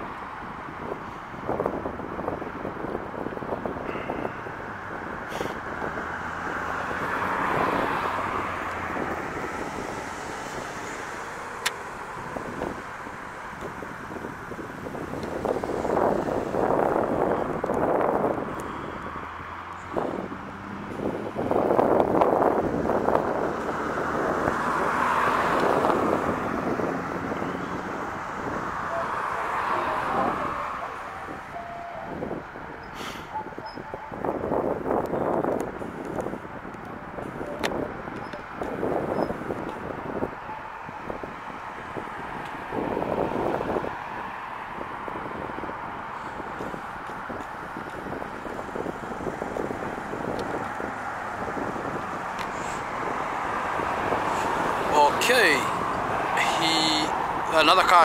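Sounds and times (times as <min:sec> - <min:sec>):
road traffic going by: 0:00.0 - 0:58.0
wind on microphone: 0:00.0 - 0:58.0.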